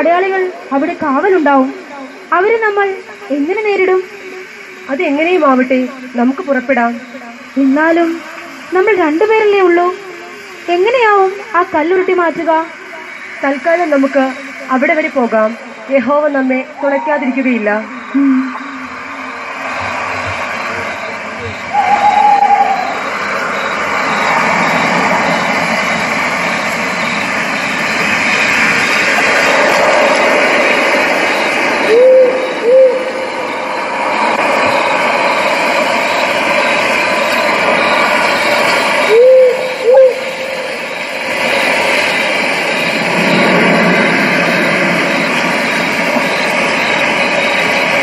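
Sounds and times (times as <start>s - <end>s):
loud steady rushing noise: 0.0s - 48.0s.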